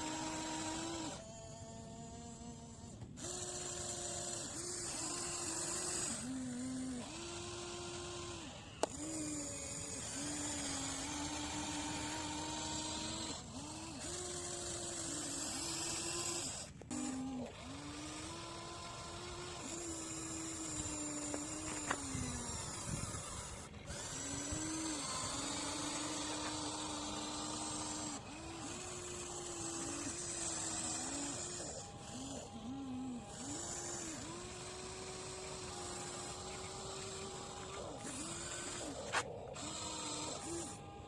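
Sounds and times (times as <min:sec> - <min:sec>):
small electric motor whining: 0:00.0 - 0:41.0.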